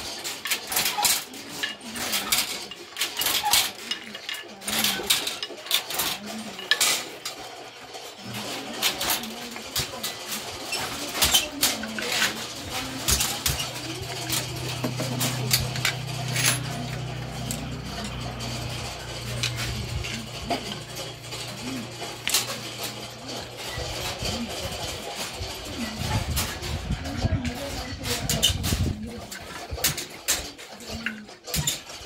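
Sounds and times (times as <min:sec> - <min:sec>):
wooden loom clacks and knocks: 0:00.0 - 0:32.0.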